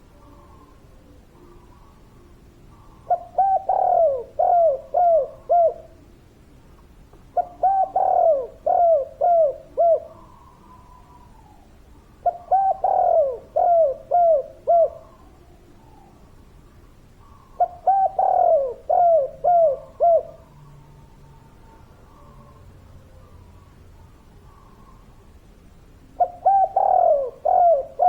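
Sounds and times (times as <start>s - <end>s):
dove cooing: 0.0s - 6.2s, 7.3s - 16.2s, 17.2s - 23.8s, 26.1s - 28.0s.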